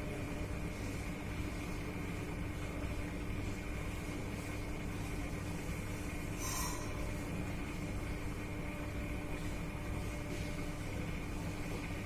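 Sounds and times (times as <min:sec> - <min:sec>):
aquarium pump humming: 0:00.0 - 0:12.0.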